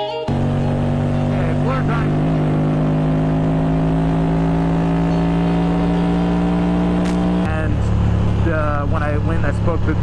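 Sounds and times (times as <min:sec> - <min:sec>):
motorcycle engine revving up: 0:00.3 - 0:10.0.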